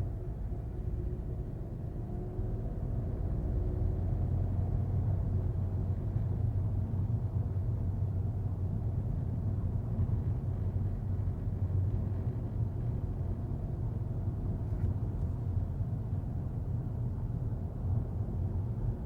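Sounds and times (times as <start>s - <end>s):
diesel car engine rumble: 0.0s - 19.0s.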